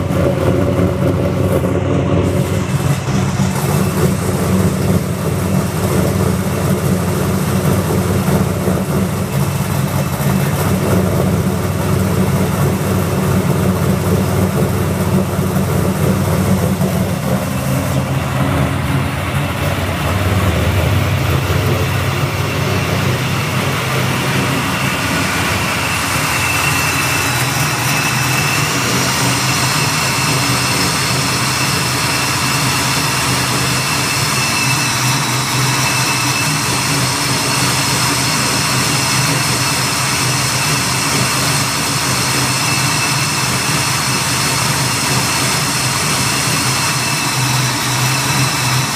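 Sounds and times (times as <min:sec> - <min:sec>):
car engine idling: 0:00.0 - 0:48.9
high whining engine tones: 0:00.0 - 0:48.9.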